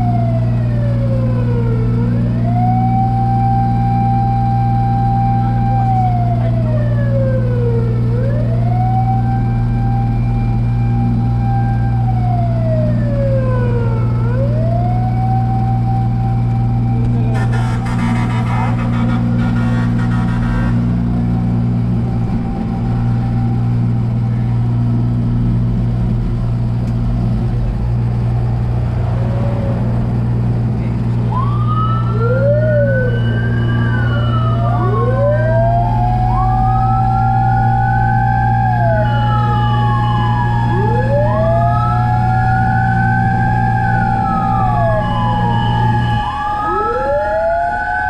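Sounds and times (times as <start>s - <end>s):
fire truck engine drone: 0.0s - 48.0s
fire truck sirens wailing: 0.0s - 48.0s.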